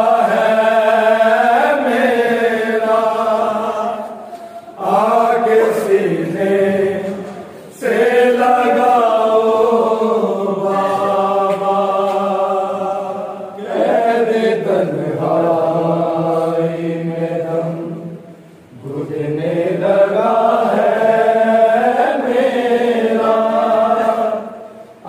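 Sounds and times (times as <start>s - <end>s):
person chanting devotional melody: 0.0s - 25.0s.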